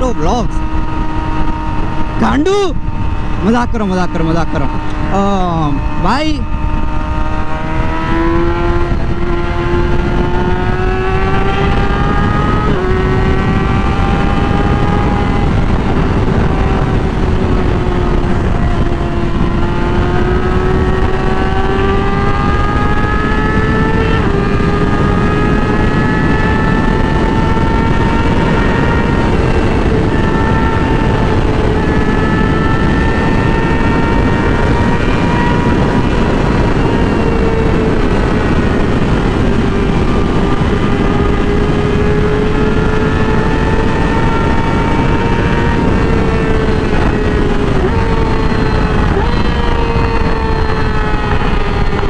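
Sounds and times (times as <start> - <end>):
motorcycle engine at high revs: 0.0 - 52.0
wind noise rushing: 0.0 - 52.0.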